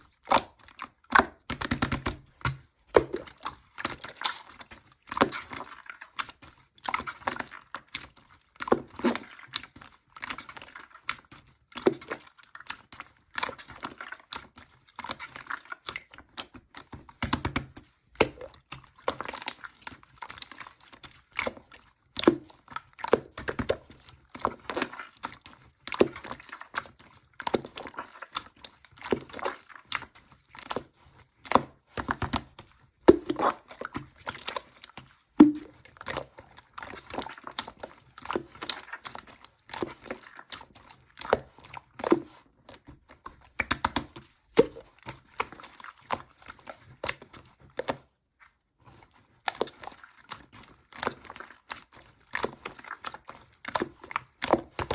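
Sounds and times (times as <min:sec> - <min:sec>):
slime squished by hand: 0:00.0 - 0:21.6, 0:22.2 - 0:48.1.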